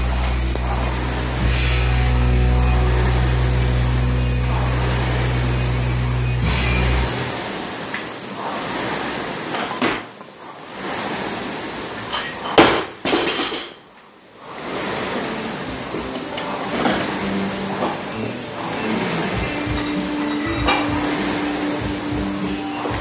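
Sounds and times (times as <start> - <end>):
rowing machine fan whooshing: 0.0 - 12.6, 14.2 - 23.0.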